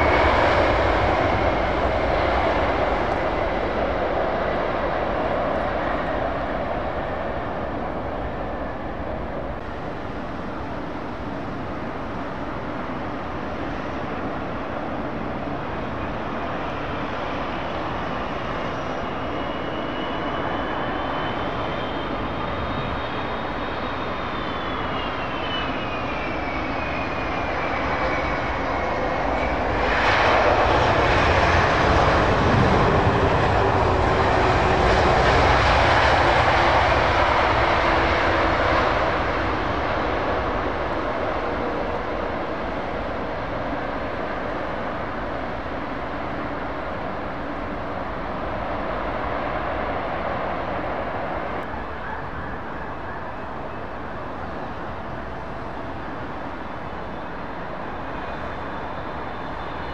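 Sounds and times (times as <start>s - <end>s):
jet engine rush and whine: 0.0s - 59.9s.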